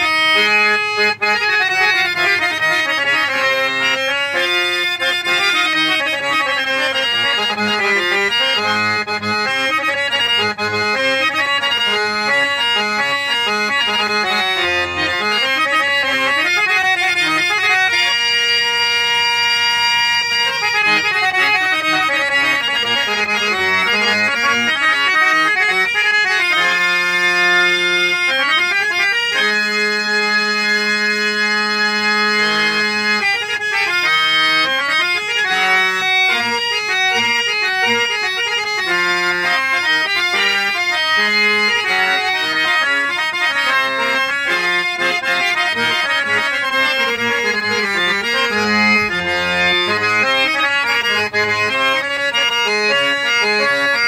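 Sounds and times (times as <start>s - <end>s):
harmonium melody: 0.0s - 54.0s.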